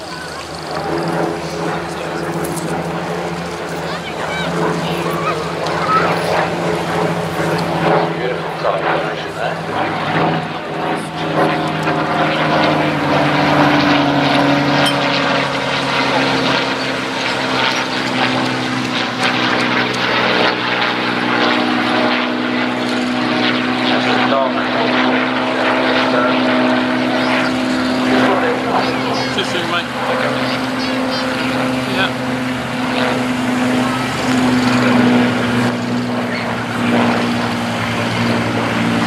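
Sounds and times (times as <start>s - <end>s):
propeller planes flying past: 0.0s - 39.0s.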